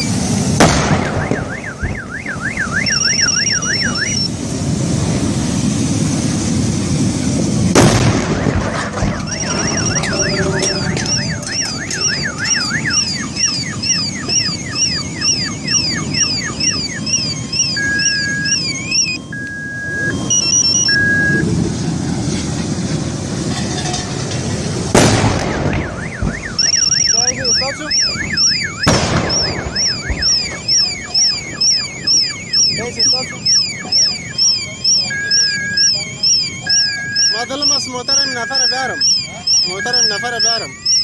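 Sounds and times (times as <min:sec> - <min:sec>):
car alarms warbling and beeping: 0:00.0 - 0:00.2, 0:00.8 - 0:04.4, 0:08.2 - 0:21.6, 0:25.3 - 0:41.0
loud explosions: 0:00.0 - 0:19.1, 0:20.2 - 0:41.0
rumble of burning wreck: 0:00.0 - 0:41.0.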